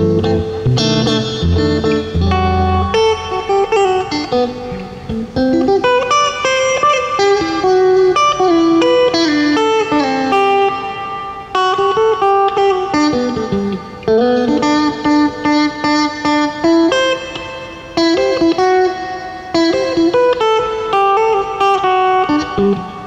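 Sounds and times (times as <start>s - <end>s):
electric guitar melody: 0.0s - 23.0s.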